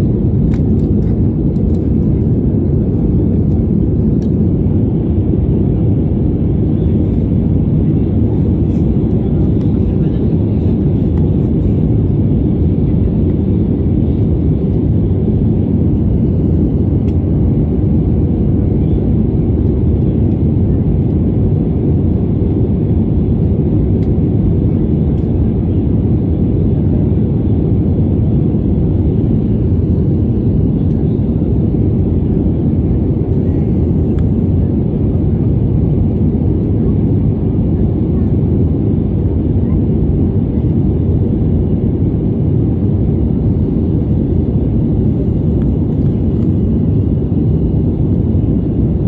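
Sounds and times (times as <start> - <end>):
airliner cabin engine rumble: 0.0 - 49.0.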